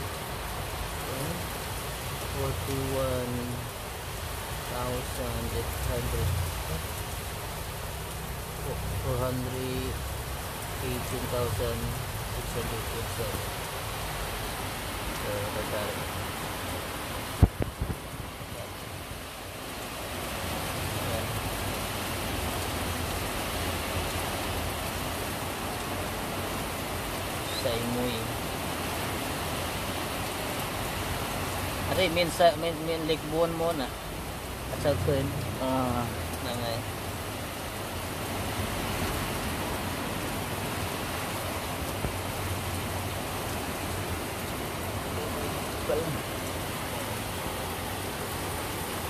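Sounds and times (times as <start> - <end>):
rain on vehicle roof: 0.0 - 49.0.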